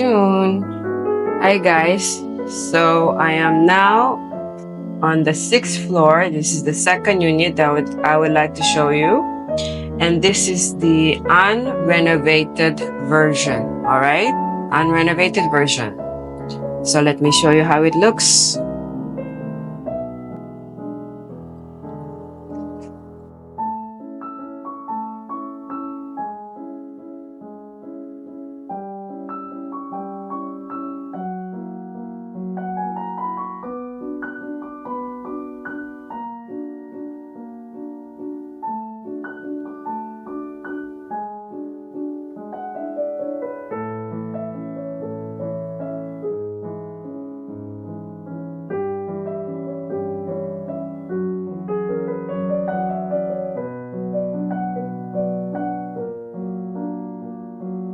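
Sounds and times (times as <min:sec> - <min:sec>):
gentle piano music: 0:00.0 - 0:57.9.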